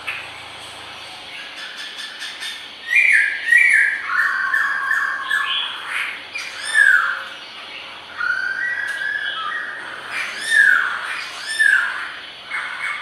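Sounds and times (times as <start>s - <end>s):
bird singing whistled phrases: 1.6s - 7.3s, 8.1s - 13.0s.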